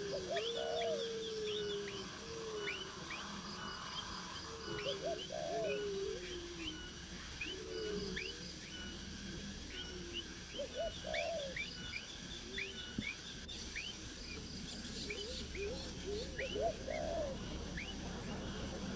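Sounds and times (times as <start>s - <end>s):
lower curving bird calls: 0.0s - 18.9s.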